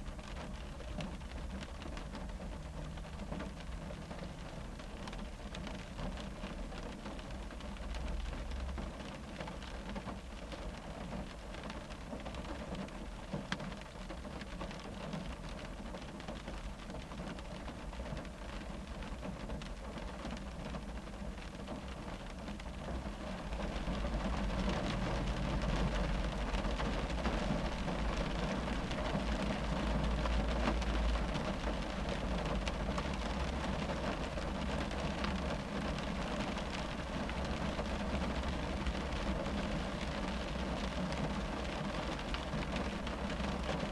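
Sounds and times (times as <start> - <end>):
rain on a car roof: 0.0 - 43.9.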